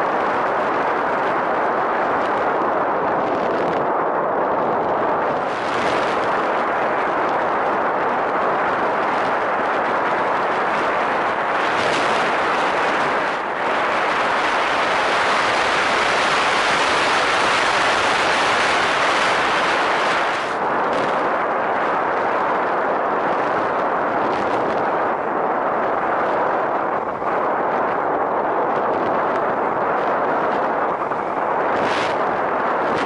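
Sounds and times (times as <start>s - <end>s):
airflow and motor noise: 0.0s - 33.0s.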